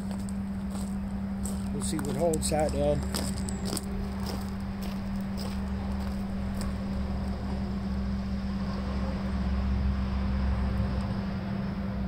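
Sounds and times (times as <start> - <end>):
low machine hum: 0.0 - 12.0
low rumble: 0.0 - 12.0.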